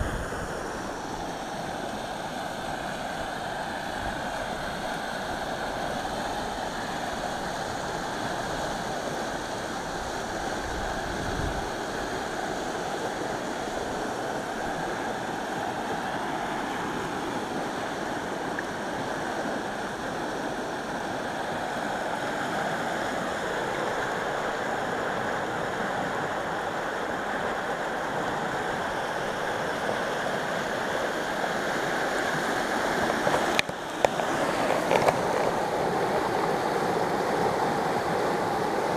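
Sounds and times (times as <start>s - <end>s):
water rushing over rapids: 0.0s - 38.9s.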